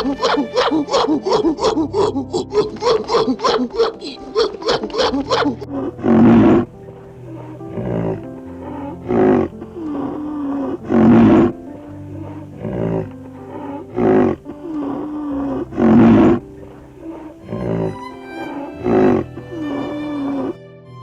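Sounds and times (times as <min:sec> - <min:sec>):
large animal calling: 0:00.0 - 0:11.5, 0:12.1 - 0:20.6
background music: 0:00.0 - 0:21.0.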